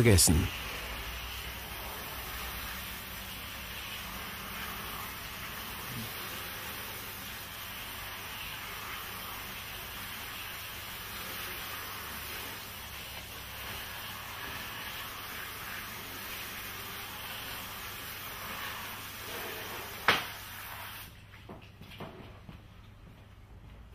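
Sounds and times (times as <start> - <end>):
water spraying from hose nozzle: 0.0 - 21.1.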